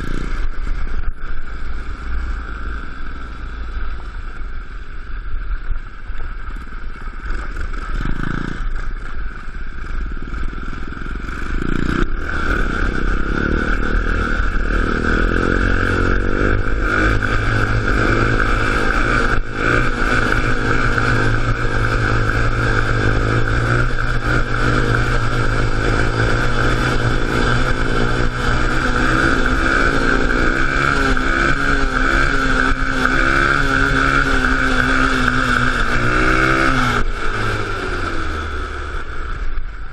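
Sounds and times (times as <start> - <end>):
small engine revving: 0.0 - 0.8, 6.6 - 39.7.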